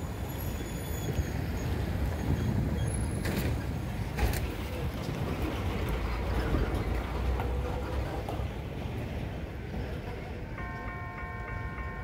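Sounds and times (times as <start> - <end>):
rumble of road vehicles: 0.0 - 12.0.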